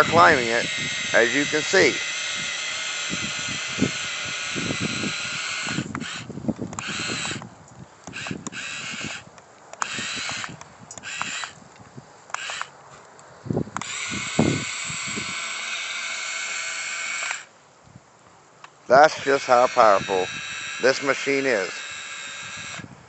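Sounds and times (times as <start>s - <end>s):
electric motor whining: 0.0s - 7.5s, 8.1s - 11.6s, 12.3s - 12.7s, 13.8s - 17.5s, 18.9s - 23.0s.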